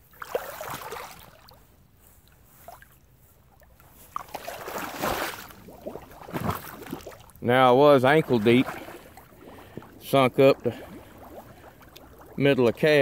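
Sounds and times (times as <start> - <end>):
water splashing: 0.0 - 1.7, 3.5 - 13.0
water sloshing around legs: 0.0 - 13.0.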